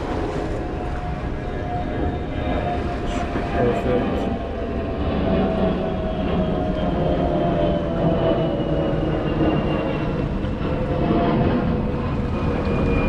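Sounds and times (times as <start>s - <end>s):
passing vehicle rumble and whine: 0.0s - 13.0s.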